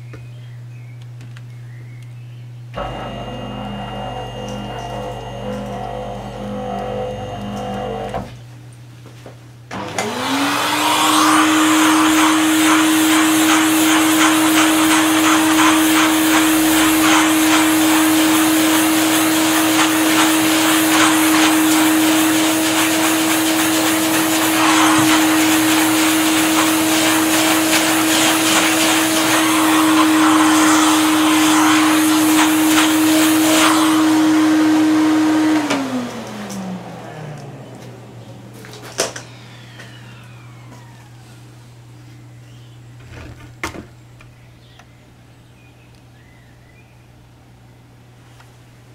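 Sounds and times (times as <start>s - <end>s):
vacuum cleaner whining: 2.7s - 8.5s, 9.7s - 43.8s.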